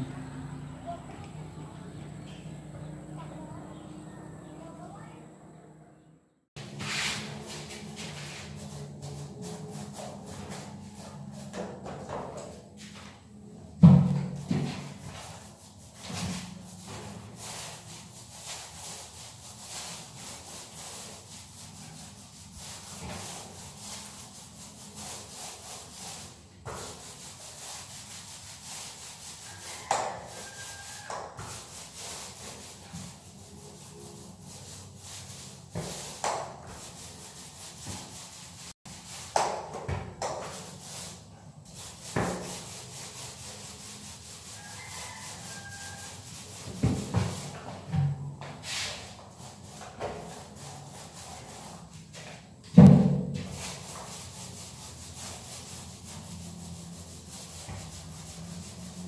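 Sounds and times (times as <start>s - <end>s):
paint roller swishing on a wall: 6.6s - 59.0s.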